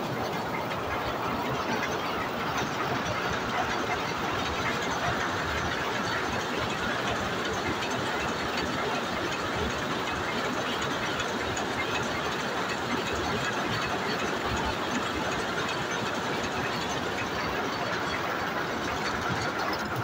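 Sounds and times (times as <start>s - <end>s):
power loom clattering: 0.0s - 20.0s.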